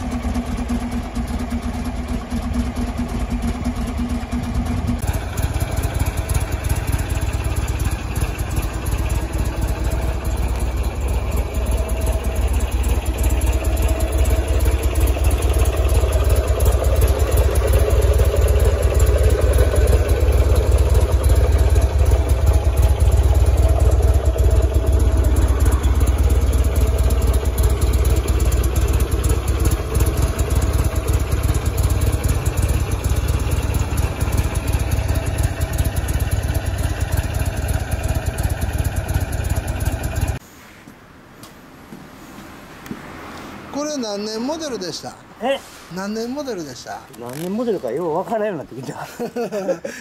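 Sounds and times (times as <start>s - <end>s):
motorcycle engine idling: 0.0s - 40.4s.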